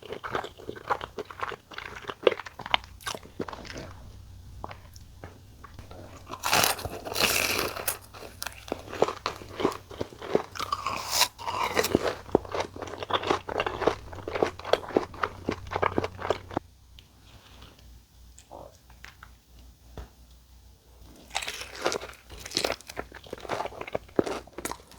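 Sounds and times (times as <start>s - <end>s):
crunchy biting and chewing: 0.0s - 16.6s, 21.1s - 24.9s.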